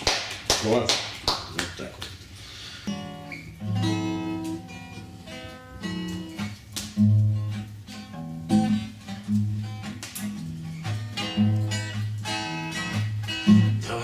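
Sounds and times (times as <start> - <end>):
acoustic guitar playing: 2.2 - 14.0.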